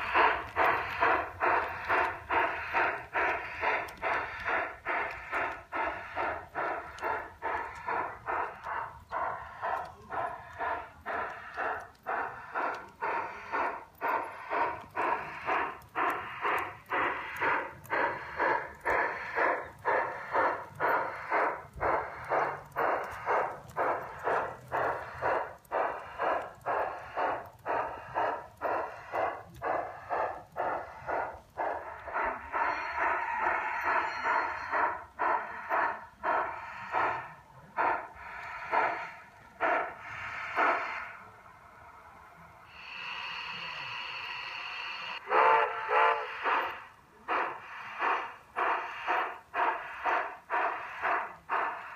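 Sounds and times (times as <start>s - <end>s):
model steam locomotive chuffing: 0.0s - 51.9s
steam hiss: 0.0s - 51.9s.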